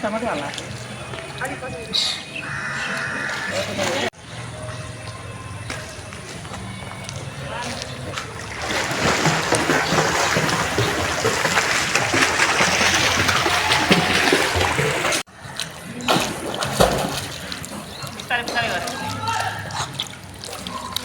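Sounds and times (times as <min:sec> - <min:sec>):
water splashing around swimmer: 0:00.0 - 0:21.0.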